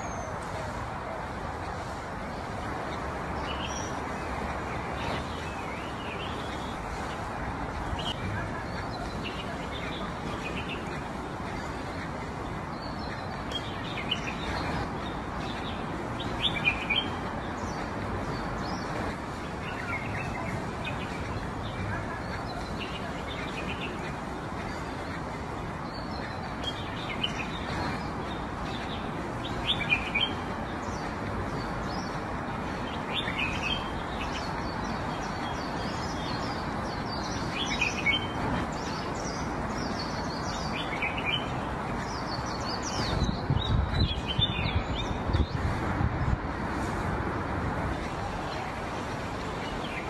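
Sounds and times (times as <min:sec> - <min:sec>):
small birds chirping: 0:00.0 - 0:50.0
steady background hiss: 0:00.0 - 0:50.0.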